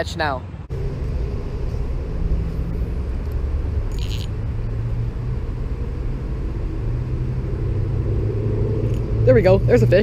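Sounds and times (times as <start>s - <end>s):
low rumble: 0.4s - 10.0s
faint hum: 0.6s - 9.3s.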